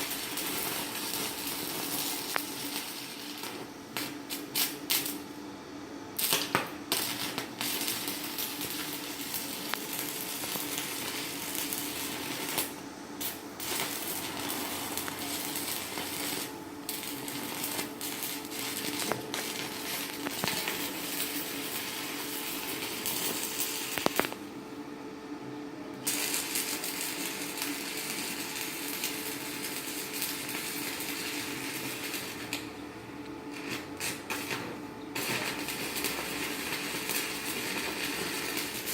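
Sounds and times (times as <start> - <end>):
welding arc crackling: 0.0 - 5.4, 6.2 - 24.5, 26.0 - 38.9
steady low hum: 0.0 - 38.9.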